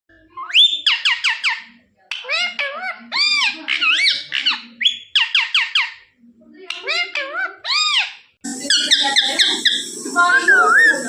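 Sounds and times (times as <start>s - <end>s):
parrot calling: 0.4s - 6.0s, 6.7s - 11.0s.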